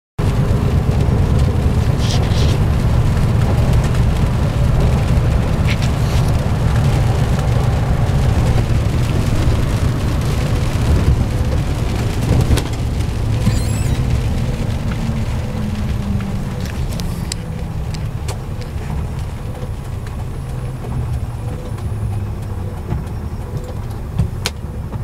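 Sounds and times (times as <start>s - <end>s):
rain: 0.2s - 25.0s
vehicle rumble on wet road: 0.2s - 25.0s.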